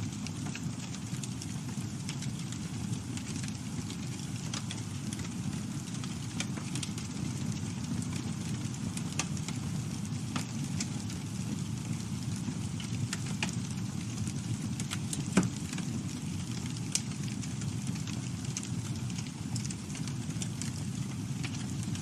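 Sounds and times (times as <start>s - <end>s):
campfire flames rumbling: 0.0s - 22.0s
wood crackling and popping: 0.0s - 22.0s.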